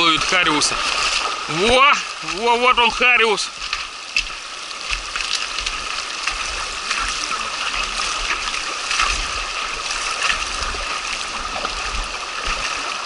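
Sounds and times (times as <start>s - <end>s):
river rushing over gravel: 0.0s - 13.0s.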